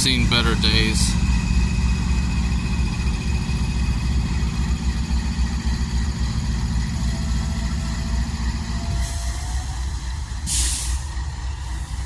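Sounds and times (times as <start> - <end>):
locomotive engine rumbling: 0.0 - 12.0.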